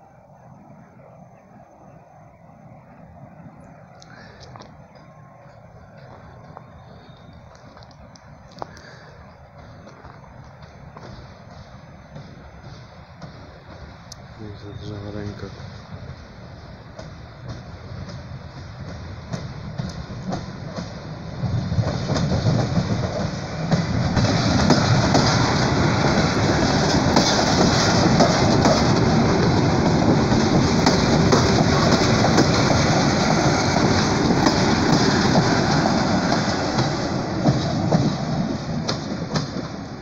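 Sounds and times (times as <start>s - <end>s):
train passing on rails: 0.0s - 40.0s
train wheel clatter: 4.0s - 40.0s.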